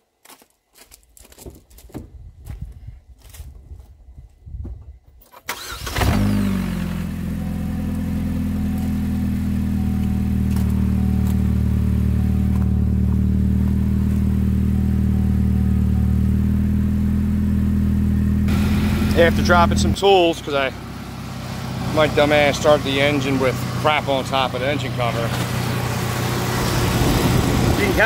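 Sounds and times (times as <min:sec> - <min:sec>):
car engine starting and idling: 0:05.4 - 0:28.0.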